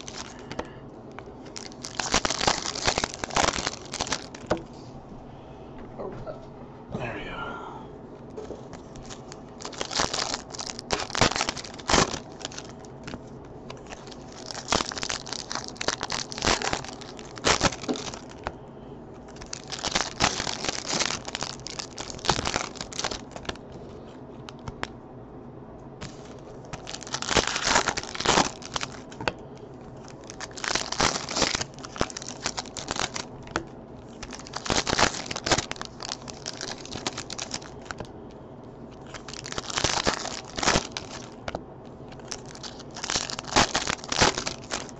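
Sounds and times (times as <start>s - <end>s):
foil wrappers tearing and crinkling: 0.0s - 4.6s, 8.8s - 18.5s, 19.2s - 23.7s, 26.0s - 29.4s, 30.0s - 38.1s, 38.9s - 44.9s.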